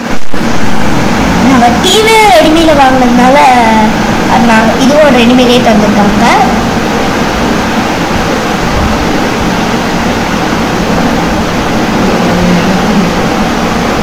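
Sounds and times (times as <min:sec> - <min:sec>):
faint low hum: 0:00.0 - 0:14.0
steady background noise: 0:00.0 - 0:14.0.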